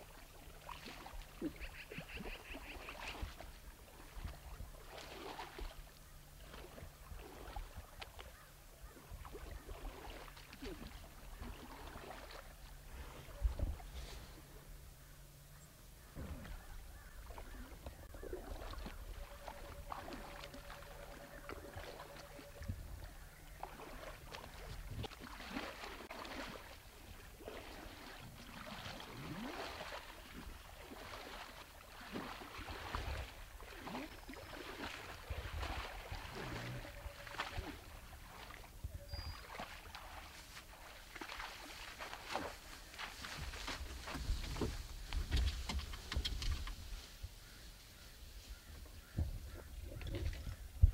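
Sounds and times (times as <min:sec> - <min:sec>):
moose wading through water: 0:00.0 - 0:50.9.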